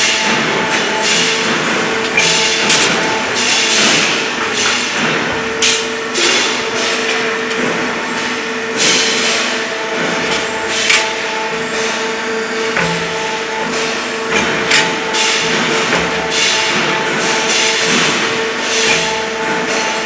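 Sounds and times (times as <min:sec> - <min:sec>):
machinery hum: 0:00.0 - 0:20.0.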